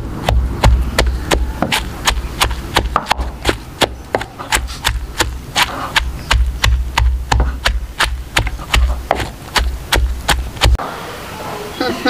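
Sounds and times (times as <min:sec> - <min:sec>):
pestle pounding in wooden mortar: 0:00.0 - 0:10.8.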